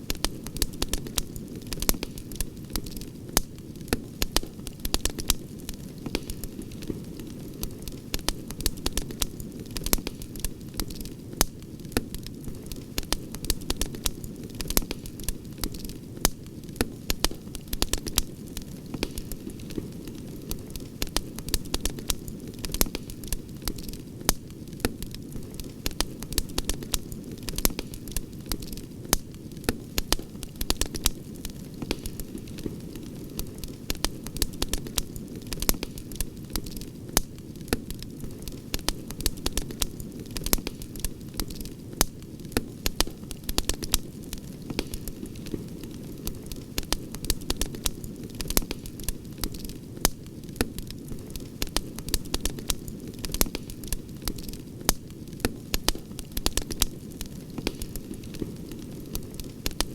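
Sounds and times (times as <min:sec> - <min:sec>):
campfire crackling and popping: 0:00.0 - 0:59.9
low rumble of burning wood: 0:00.0 - 0:59.9.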